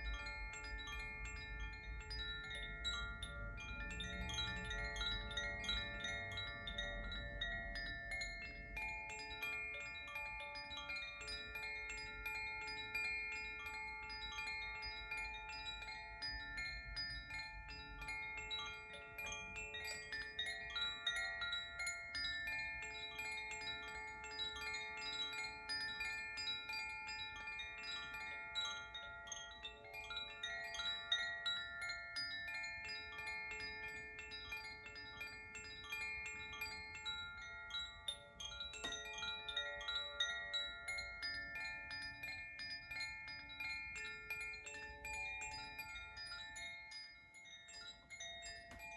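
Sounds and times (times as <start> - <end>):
wind chimes tinkling: 0.0 - 48.9.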